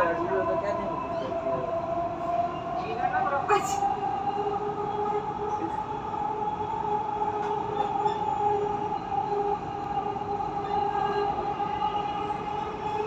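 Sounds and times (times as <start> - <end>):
train running noise: 0.0 - 13.0
train whine: 0.0 - 13.0.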